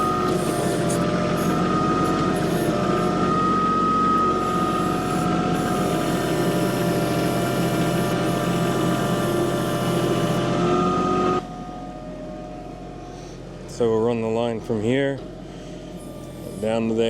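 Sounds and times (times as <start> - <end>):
hydraulic whine: 0.0 - 13.9, 14.6 - 17.0
diesel tractor engine running: 0.0 - 17.0.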